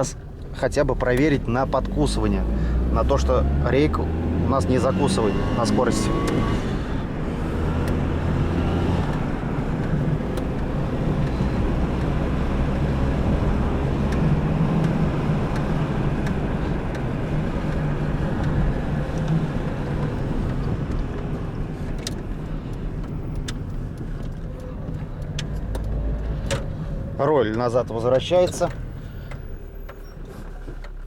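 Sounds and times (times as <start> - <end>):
car engine running: 0.0 - 31.0.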